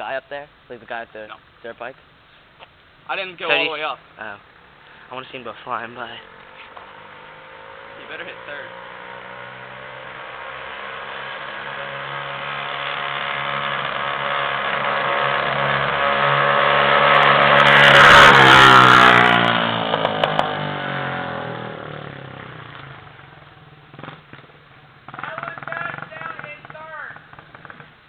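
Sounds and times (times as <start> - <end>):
dirt bike passing by: 5.0 - 28.0.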